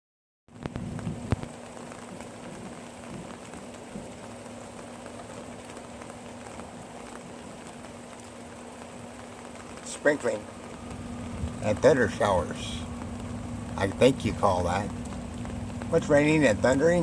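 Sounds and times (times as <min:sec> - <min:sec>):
light rain falling: 0:00.5 - 0:17.0
water drips: 0:00.7 - 0:17.0.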